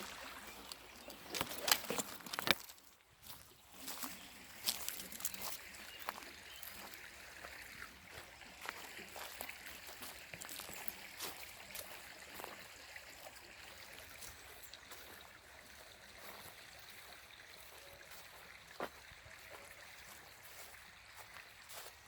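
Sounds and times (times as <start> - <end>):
stream trickling over rocks: 0.0 - 22.0.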